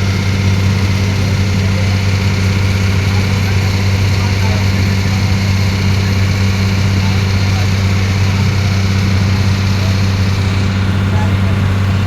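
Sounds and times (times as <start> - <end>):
ferry engine humming: 0.0 - 12.0.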